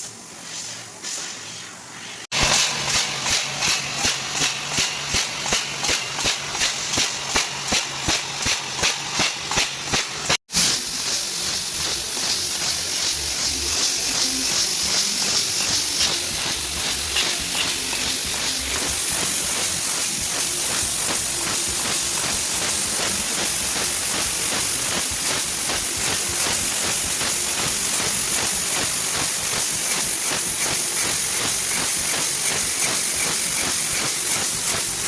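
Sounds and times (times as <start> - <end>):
laser cutter gas hissing: 0.0 - 35.0.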